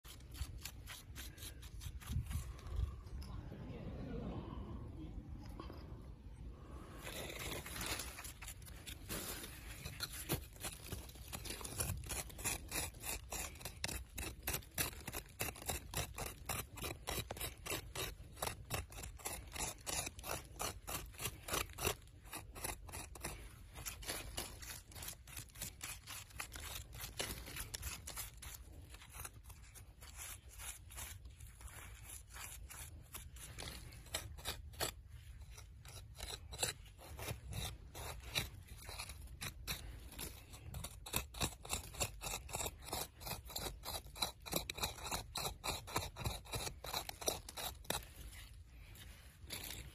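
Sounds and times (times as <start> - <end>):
hand tool digging into gritty soil: 0.0 - 3.3, 6.6 - 49.9.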